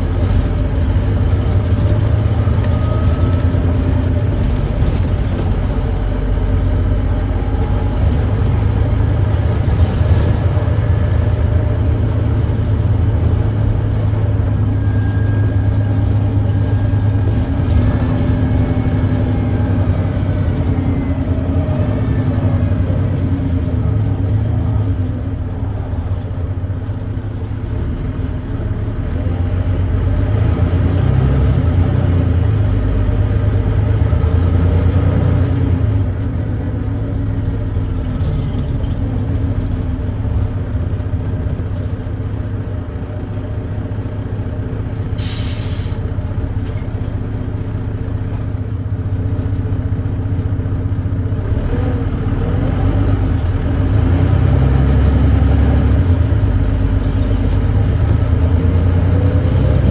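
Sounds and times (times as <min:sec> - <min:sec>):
diesel bus engine droning: 0:00.0 - 0:59.9.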